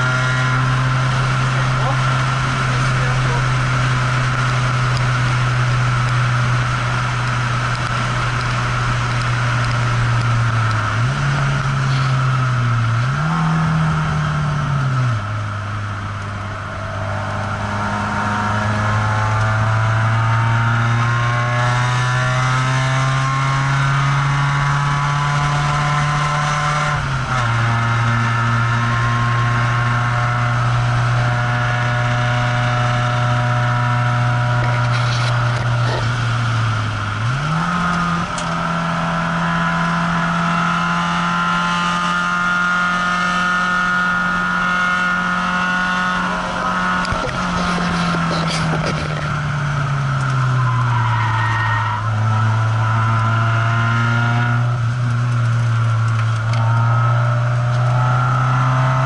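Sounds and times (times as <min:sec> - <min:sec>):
car engine from inside cabin: 0:00.0 - 0:59.0
road and wind noise: 0:00.0 - 0:59.0.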